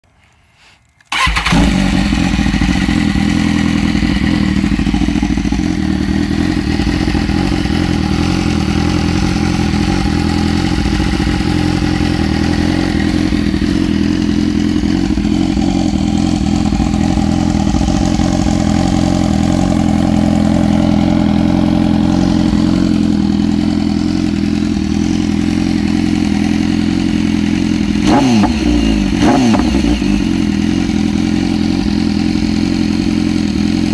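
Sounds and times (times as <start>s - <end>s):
motorcycle engine idling and revving: 1.1s - 33.9s.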